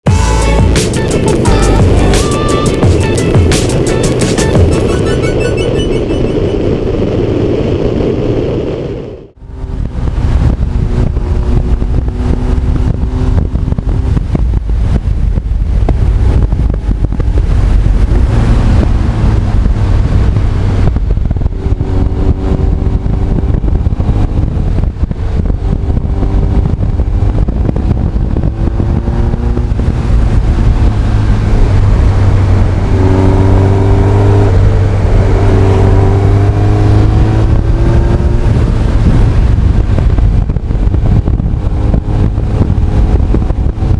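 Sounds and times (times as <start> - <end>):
motorcycle engine accelerating: 0.0 - 43.9
wind noise on microphone: 0.0 - 43.9.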